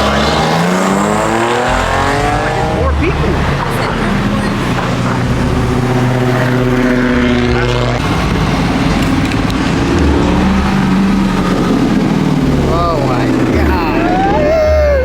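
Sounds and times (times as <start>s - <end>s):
car engine running: 0.0s - 15.0s
rough engine rumble: 0.0s - 15.0s.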